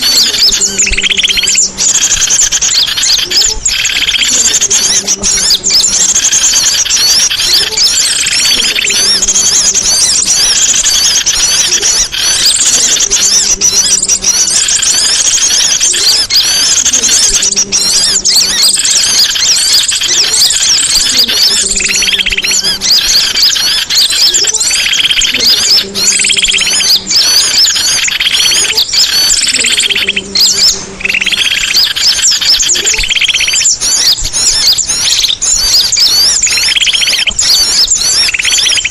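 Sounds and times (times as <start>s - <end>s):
songbird twittering trills: 0.0s - 38.9s.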